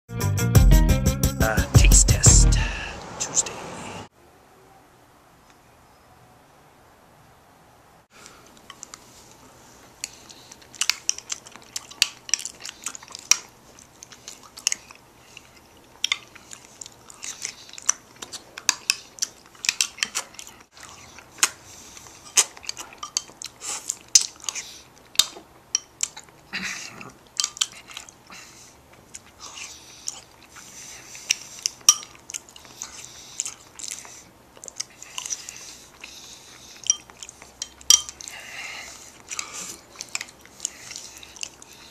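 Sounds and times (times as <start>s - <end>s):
lip smacks: 8.2s - 41.9s
wet chewing: 8.2s - 41.9s.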